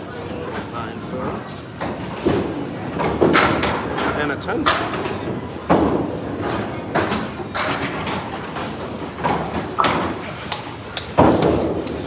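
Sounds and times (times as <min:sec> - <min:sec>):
bowling lanes din: 0:00.0 - 0:12.0
bowling balls knocking pins: 0:01.8 - 0:12.0.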